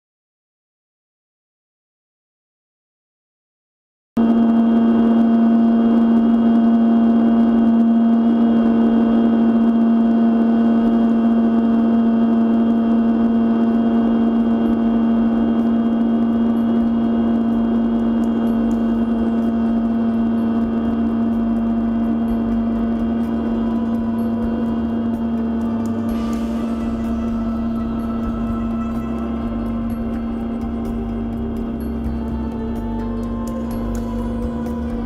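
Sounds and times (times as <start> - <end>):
model airplane motor buzzing: 4.2 - 35.0.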